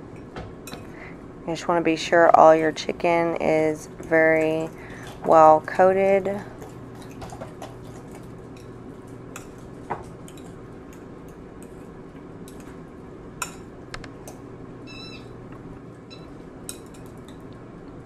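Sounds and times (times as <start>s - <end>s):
air fryer humming: 0.0s - 18.0s.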